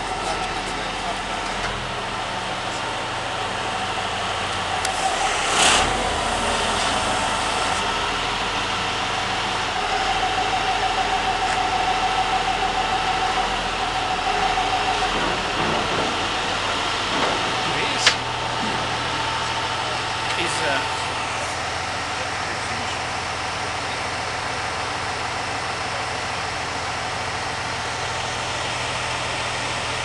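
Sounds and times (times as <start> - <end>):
diesel engine running: 0.0 - 30.0
steady whine: 0.0 - 30.0.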